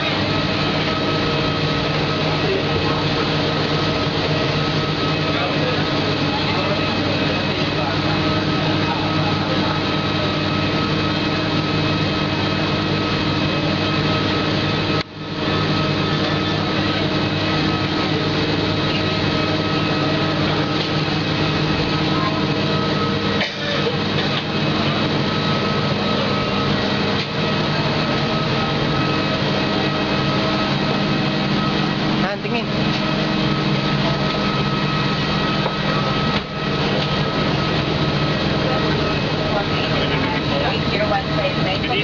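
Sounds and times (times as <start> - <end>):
airliner machinery drone: 0.0 - 42.0.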